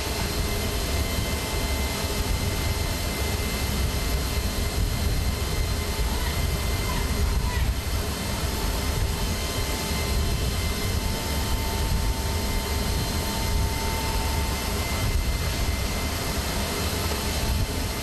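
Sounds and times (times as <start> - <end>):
aircraft engine roar: 0.0 - 18.0.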